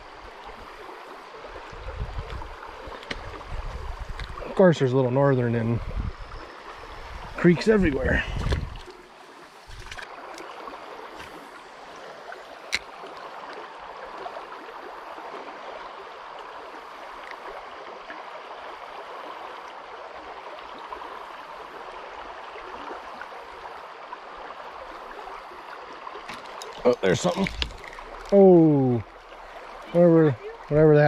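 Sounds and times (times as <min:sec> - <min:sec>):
creek water running: 0:00.0 - 0:31.0.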